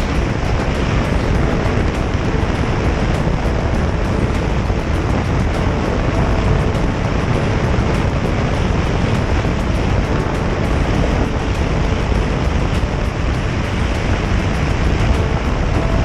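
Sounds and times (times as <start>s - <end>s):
road noise: 0.0s - 16.0s
wind rushing over microphone: 0.0s - 16.0s.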